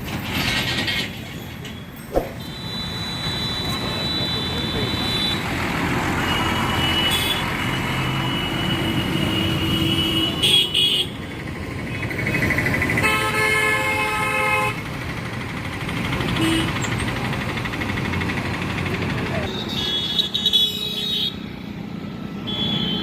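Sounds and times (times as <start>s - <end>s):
heavy road traffic: 0.0s - 23.0s.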